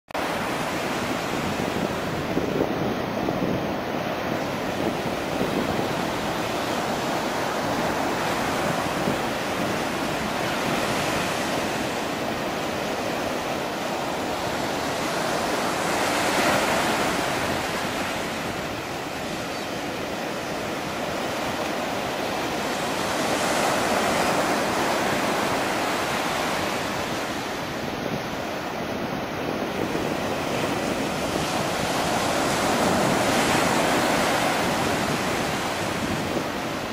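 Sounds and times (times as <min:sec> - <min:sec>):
sea waves breaking on beach: 0:00.2 - 0:36.9.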